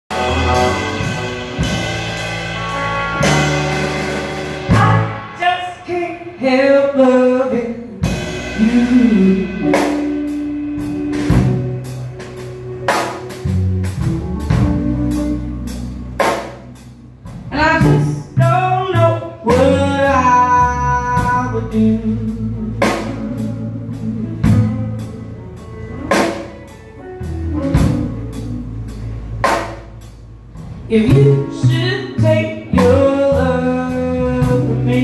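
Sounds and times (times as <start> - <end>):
drum kit: 0.0 - 35.0
upright bass: 0.0 - 35.0.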